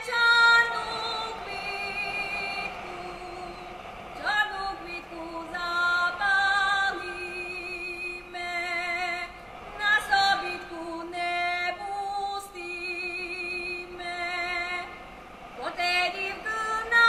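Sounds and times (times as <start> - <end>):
woman singing with vibrato: 0.0 - 17.0.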